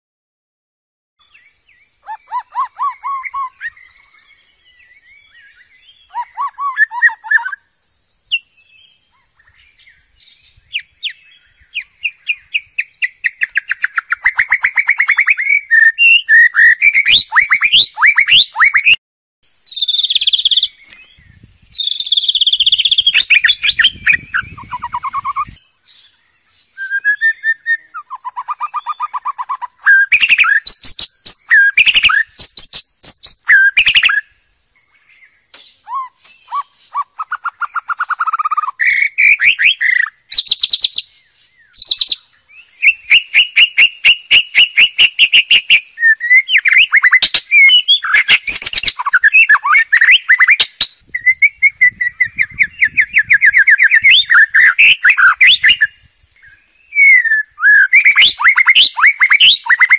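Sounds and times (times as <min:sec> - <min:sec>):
bird singing whistles and trills: 0:01.2 - 0:59.9.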